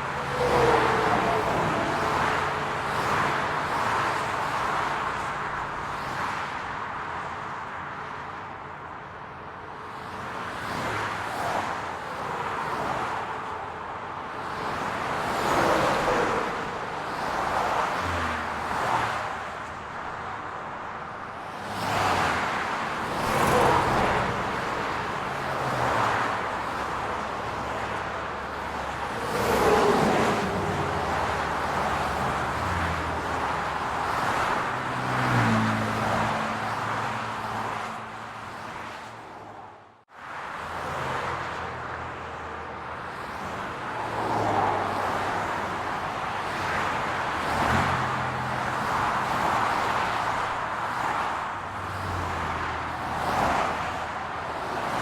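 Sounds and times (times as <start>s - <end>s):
cars passing: 0.0s - 55.0s
steady hum of engines: 0.0s - 55.0s.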